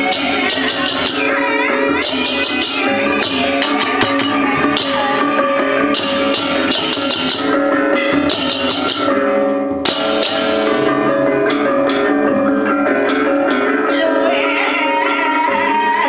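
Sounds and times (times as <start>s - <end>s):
drums: 0.0s - 16.0s
sustained pitched tones: 0.0s - 16.0s.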